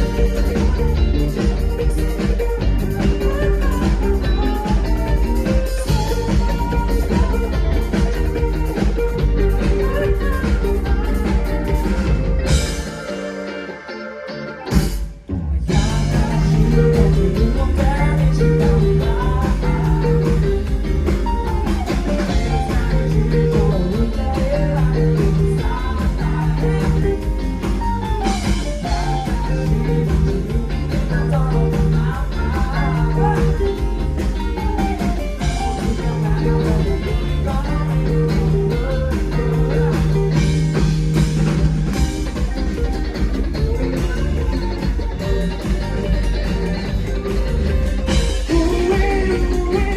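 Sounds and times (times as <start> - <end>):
live rock band playing: 0.0 - 49.9.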